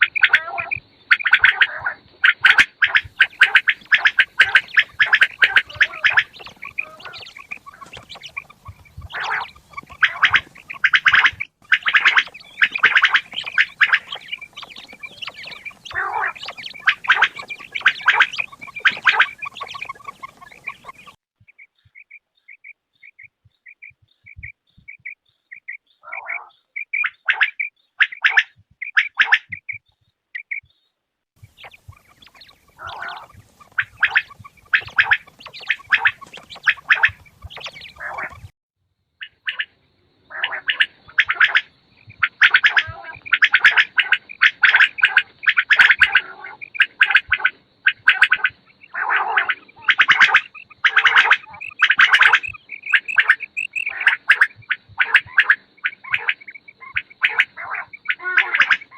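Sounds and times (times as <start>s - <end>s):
quails calling: 0.0s - 38.5s, 39.2s - 58.9s.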